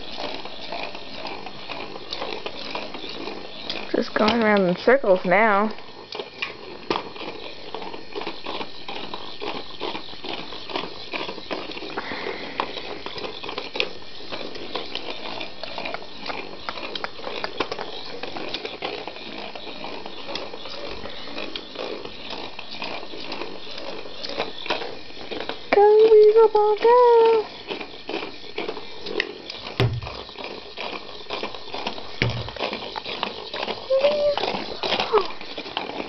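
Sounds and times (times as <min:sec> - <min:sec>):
motorised toy ball whirring: 0:00.0 - 0:36.0
small clicks and rattles: 0:00.0 - 0:36.0.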